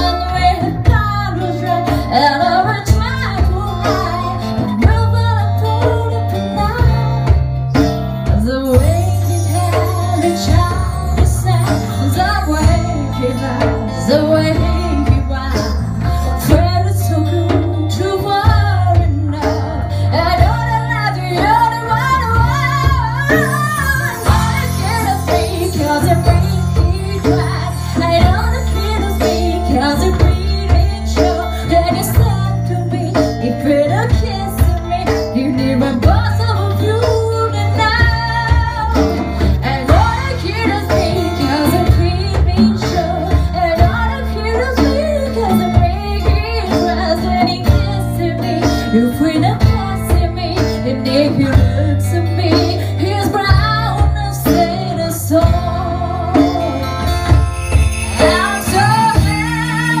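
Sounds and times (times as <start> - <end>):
conga drums: 0.0 - 60.0
guitars: 0.0 - 60.0
person singing: 8.3 - 60.0.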